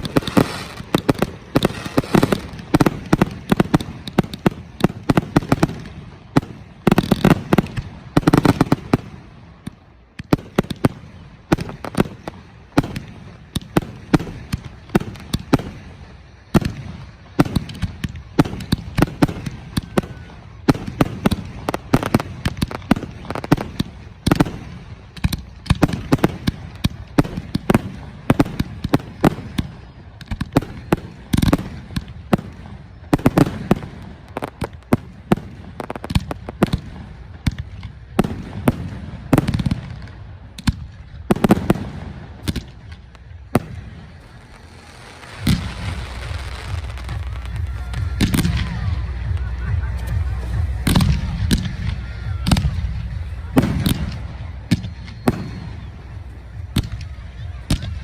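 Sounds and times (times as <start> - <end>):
fireworks bursting with sharp bangs: 0.0 - 58.0
fireworks crackle: 0.0 - 58.0.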